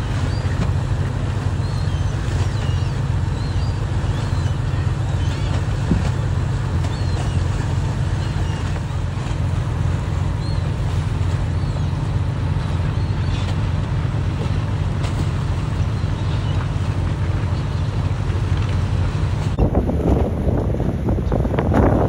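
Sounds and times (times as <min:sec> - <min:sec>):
boat diesel engine rumble: 0:00.0 - 0:22.0
water churning and splashing: 0:00.0 - 0:22.0.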